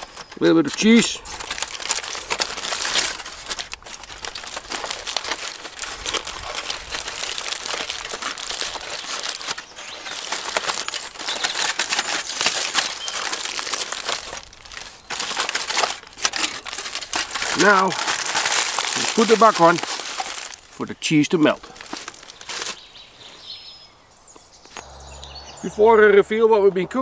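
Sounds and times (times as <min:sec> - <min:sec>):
aluminium foil crinkling: 0:00.0 - 0:23.2.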